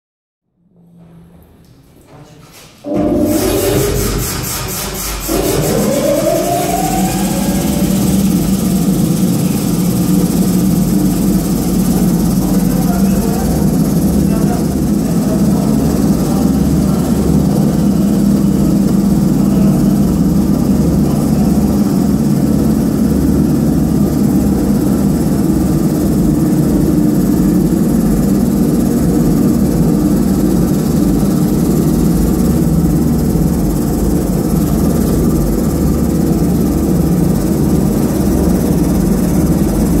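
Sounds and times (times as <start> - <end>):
washing machine drum humming: 2.8 - 40.0.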